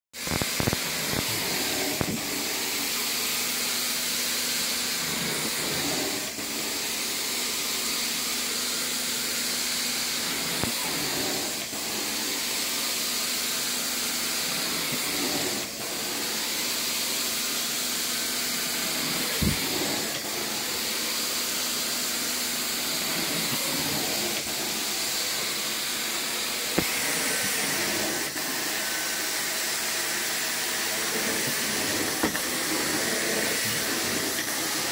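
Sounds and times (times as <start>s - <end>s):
carpet extraction wand sucking: 0.2s - 3.2s, 4.5s - 8.0s, 10.0s - 17.6s, 18.6s - 34.9s.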